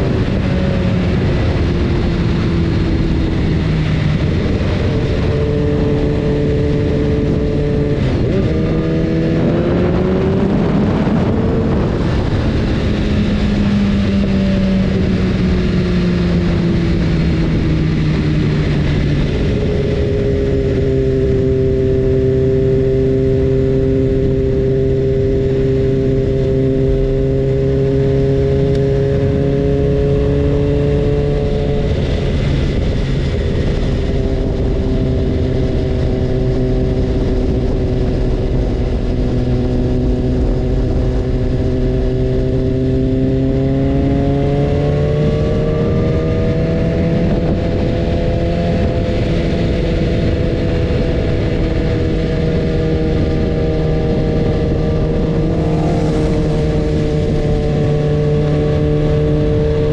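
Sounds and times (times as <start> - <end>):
dense rushing noise: 0.0 - 22.2, 31.2 - 44.1, 44.9 - 59.9
motorcycle engine running: 0.0 - 59.9.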